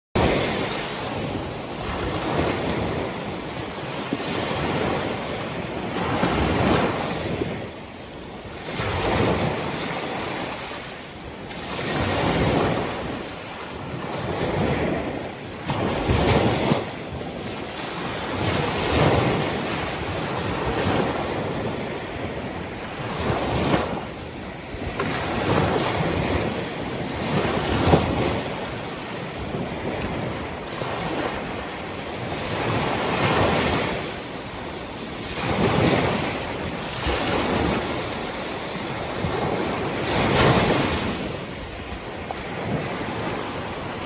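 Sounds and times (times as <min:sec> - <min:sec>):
ocean waves breaking: 0:00.2 - 0:44.0.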